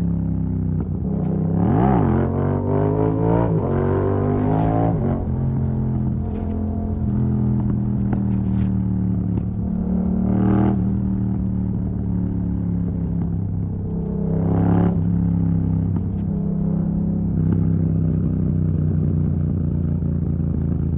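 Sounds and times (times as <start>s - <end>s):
loud motorcycle engine running: 0.0s - 20.9s.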